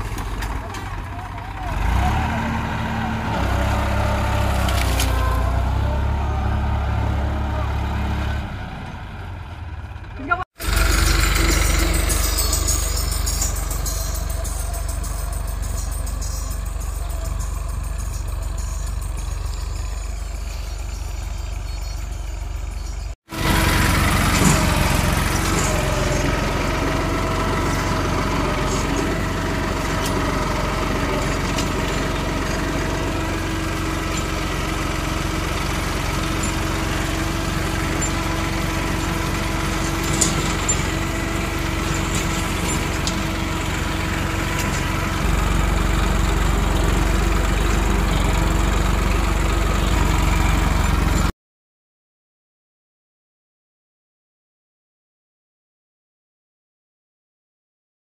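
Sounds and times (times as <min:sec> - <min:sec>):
tractor diesel engine running: 0:00.0 - 0:51.3.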